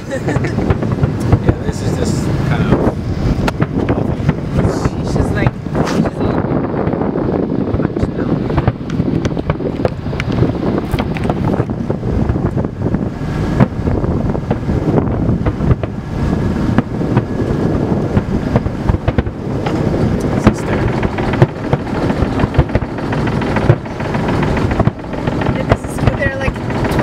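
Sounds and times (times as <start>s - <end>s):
firework bangs and crackles: 0.0s - 27.0s
steady low rumble: 0.0s - 27.0s.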